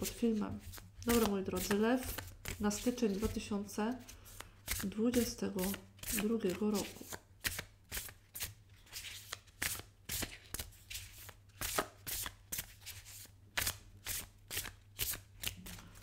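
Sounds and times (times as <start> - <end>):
cards being shuffled: 0.1 - 16.0.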